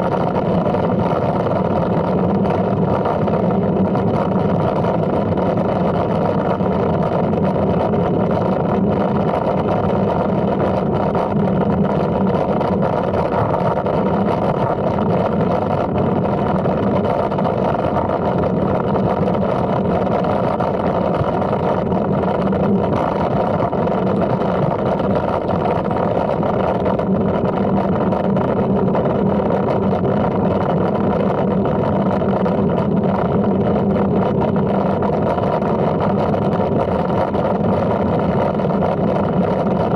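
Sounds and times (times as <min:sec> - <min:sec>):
bicycle rolling road noise: 0:00.0 - 0:39.9.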